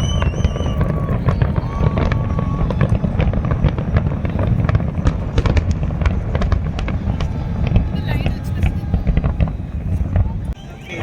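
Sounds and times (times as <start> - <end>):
distant fireworks rumble: 0.0 - 10.6
fireworks crackling: 0.0 - 11.0.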